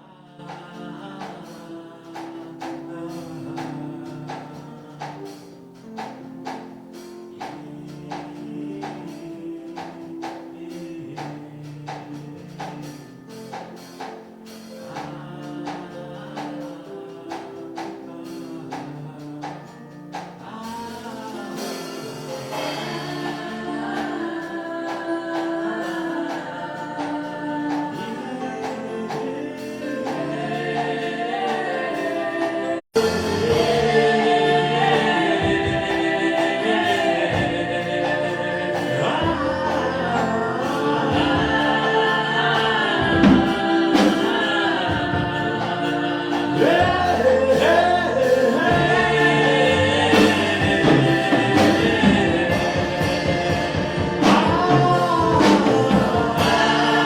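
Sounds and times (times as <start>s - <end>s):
gospel choir singing: 0.0s - 57.0s
musical backing with steady beat: 0.0s - 57.0s.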